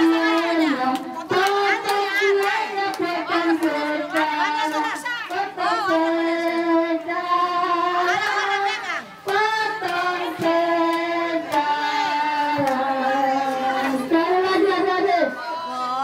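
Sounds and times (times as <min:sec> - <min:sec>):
children and women singing: 0:00.0 - 0:16.0.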